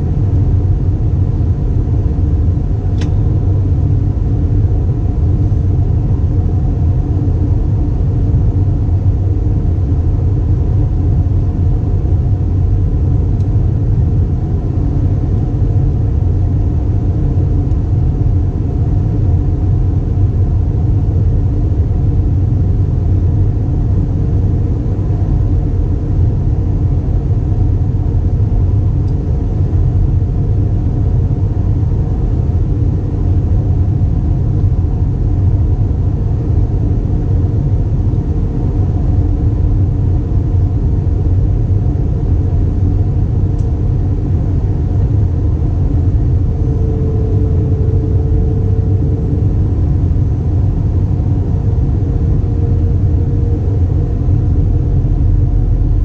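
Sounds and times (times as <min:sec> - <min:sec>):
aircraft engines and airflow rumble: 0:00.0 - 0:56.0
faint hum: 0:00.0 - 0:56.0.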